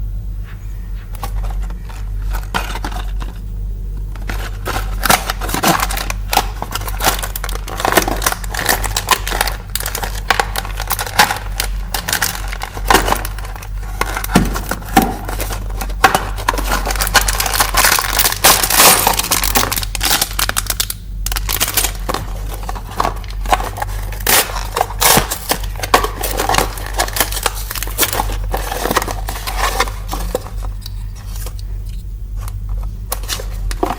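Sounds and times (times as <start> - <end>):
steady low hum: 0.0 - 33.9
packaging crinkling and tearing: 4.1 - 31.6, 32.4 - 33.9.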